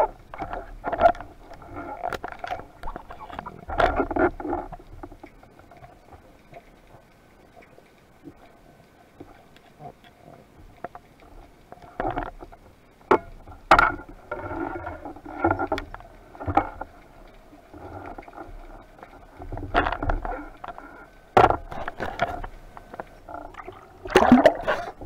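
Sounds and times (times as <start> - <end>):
underwater scraping and rustling: 0.0 - 25.0.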